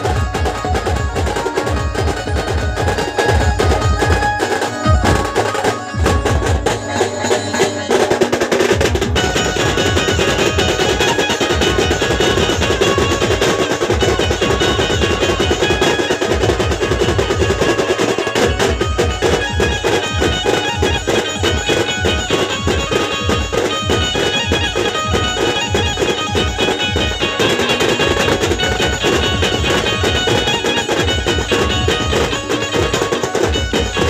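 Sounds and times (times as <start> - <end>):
drums beating: 0.0 - 34.0
live band playing loud music: 0.0 - 34.0.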